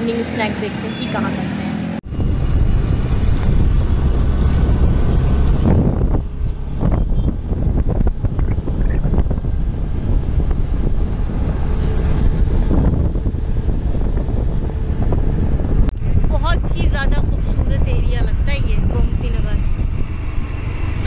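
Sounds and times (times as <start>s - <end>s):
motorbike low rumble: 1.9s - 21.0s
wind buffeting microphone: 2.0s - 21.0s.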